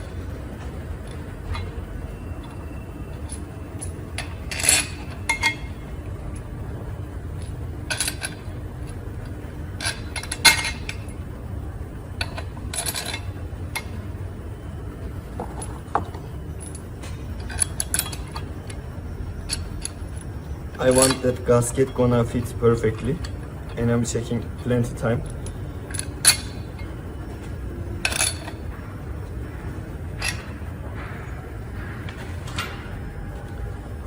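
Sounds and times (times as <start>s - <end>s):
metal tools clinking and scraping: 0.0s - 6.5s, 7.4s - 8.6s, 9.2s - 11.2s, 12.2s - 14.0s, 15.3s - 29.6s, 30.2s - 33.8s
low workshop hum: 0.0s - 34.0s.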